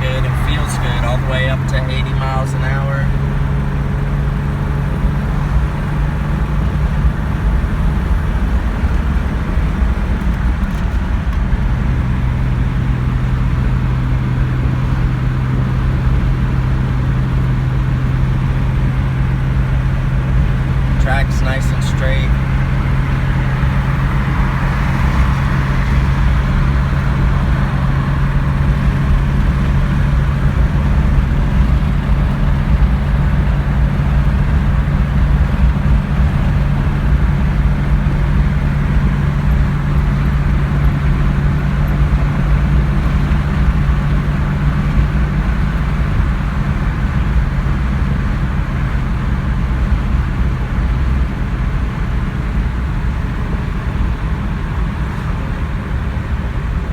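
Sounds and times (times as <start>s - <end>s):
car engine running: 0.0s - 56.9s
tyre and road noise: 0.0s - 56.9s.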